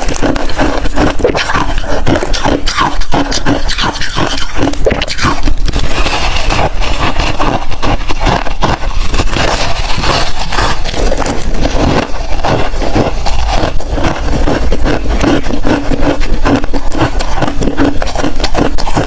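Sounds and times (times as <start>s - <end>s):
chewing crunchy ice: 0.0s - 19.0s.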